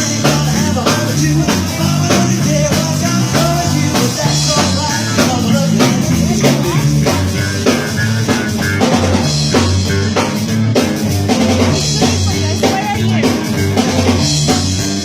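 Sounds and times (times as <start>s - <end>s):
drum kit beat with snare: 0.0s - 15.0s
guitar: 0.0s - 15.0s
walking bass line: 0.0s - 15.0s.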